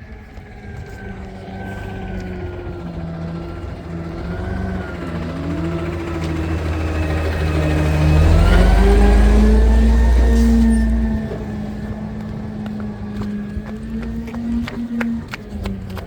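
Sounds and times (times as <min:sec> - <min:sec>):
truck diesel engine revving: 0:00.0 - 0:16.0.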